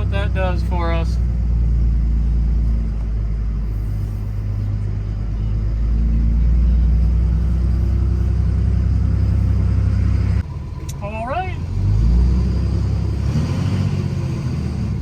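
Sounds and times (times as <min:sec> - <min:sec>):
diesel engine pulling hard: 0:00.0 - 0:15.0.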